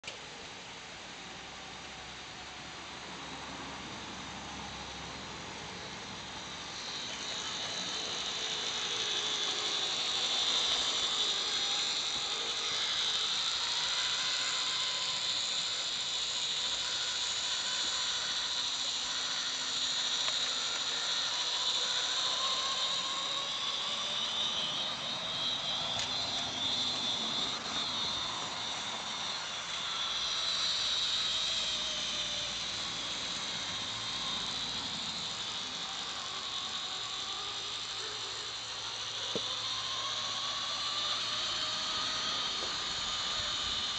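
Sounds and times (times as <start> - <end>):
model train mechanical whir: 0.0 - 43.9.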